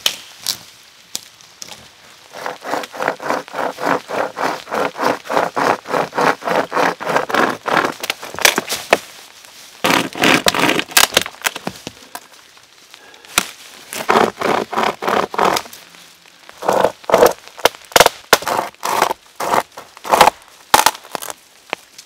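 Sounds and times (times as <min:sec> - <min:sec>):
dry sticks crackling and snapping: 0:00.0 - 0:22.0.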